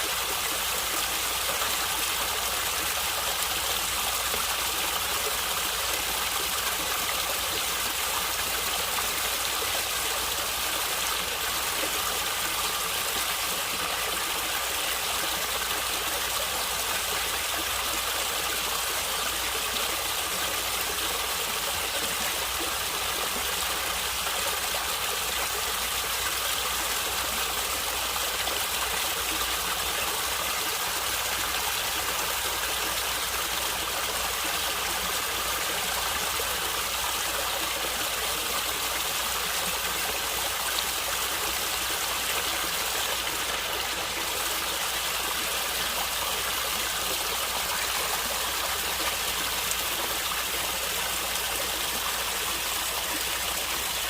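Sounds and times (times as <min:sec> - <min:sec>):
stream water flowing and gurgling: 0:00.0 - 0:54.0.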